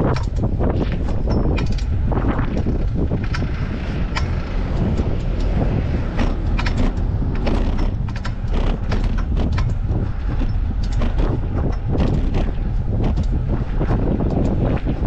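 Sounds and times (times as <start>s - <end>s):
bike tyre and drivetrain noise: 0.0s - 15.0s
clicks and rattles: 0.0s - 15.0s
wind buffeting microphone: 0.0s - 15.0s.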